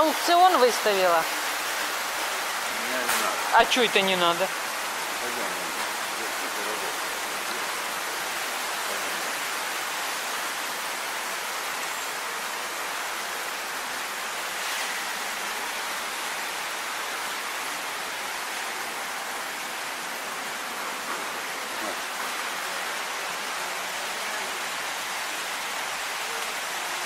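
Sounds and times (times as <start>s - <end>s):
steady rushing hiss: 0.0s - 27.0s.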